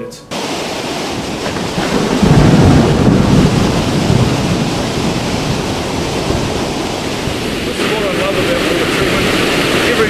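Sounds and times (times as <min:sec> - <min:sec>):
river water rushing: 0:00.3 - 0:10.0
wind rumble on microphone: 0:00.9 - 0:10.0.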